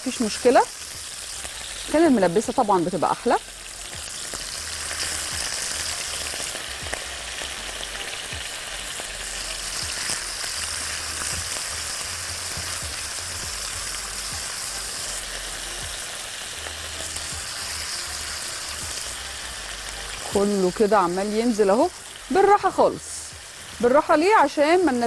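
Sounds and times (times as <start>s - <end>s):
beef sizzling in oil: 0.0s - 25.0s.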